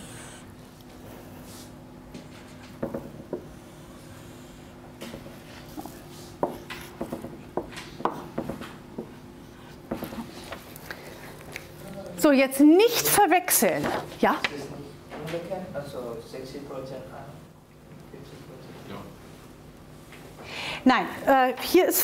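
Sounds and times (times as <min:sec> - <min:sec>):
steady low hum: 0:00.0 - 0:21.8.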